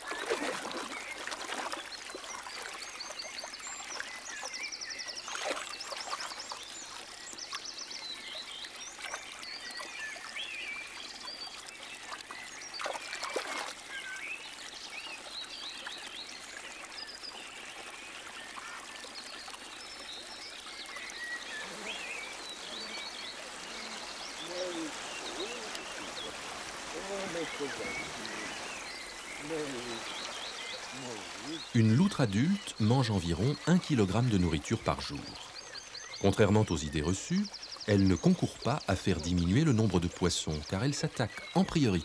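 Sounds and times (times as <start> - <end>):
stream trickling and splashing: 0.0 - 42.0.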